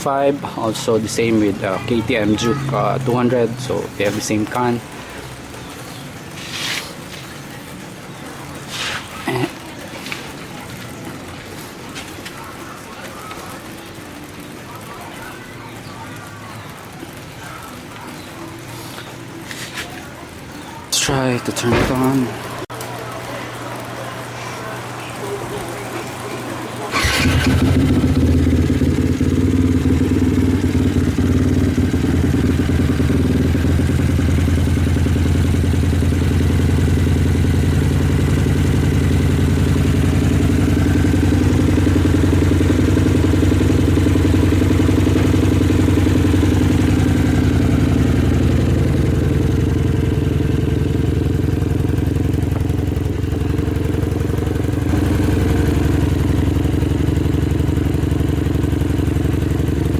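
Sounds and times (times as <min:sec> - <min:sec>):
motorcycle engine starting and idling: 0:00.0 - 0:24.2, 0:26.7 - 0:59.9.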